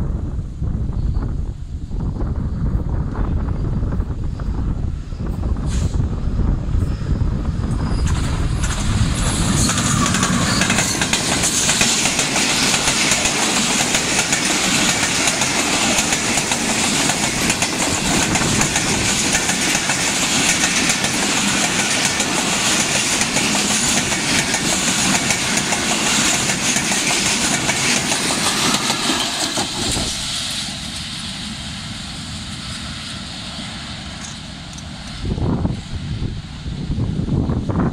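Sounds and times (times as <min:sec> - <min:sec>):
passenger train rumbling past: 0:00.0 - 0:37.9.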